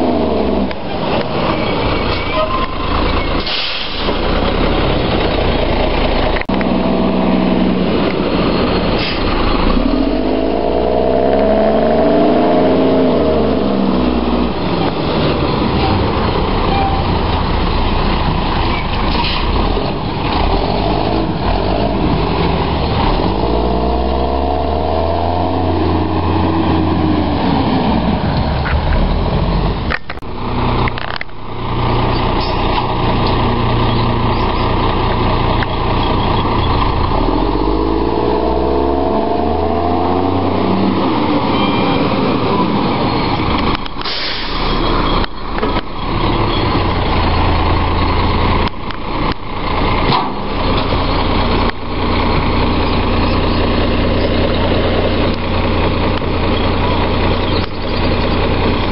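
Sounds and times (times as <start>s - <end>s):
garbage truck diesel engine revving: 0.0s - 58.9s.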